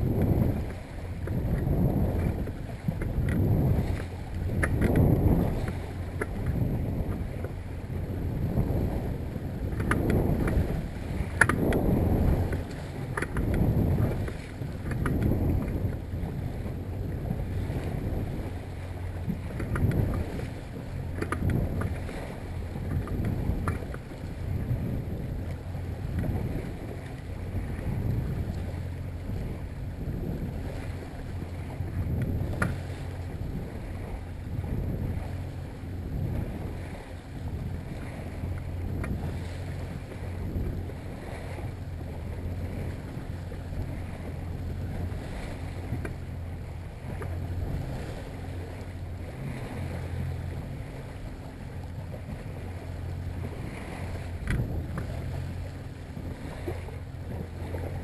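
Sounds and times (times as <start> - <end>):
outboard motor humming: 0.0 - 58.0
water around hull: 0.0 - 58.0
wind on microphone: 0.0 - 58.0.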